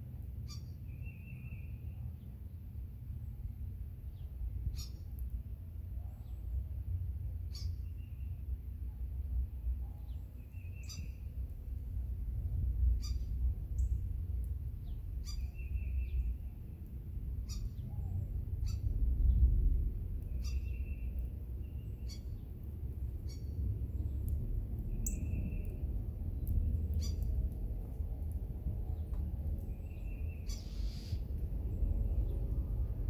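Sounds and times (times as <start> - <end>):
songbirds singing: 0.4 - 5.3, 5.9 - 11.6, 12.4 - 33.0
wind rumble on microphone: 1.3 - 33.0.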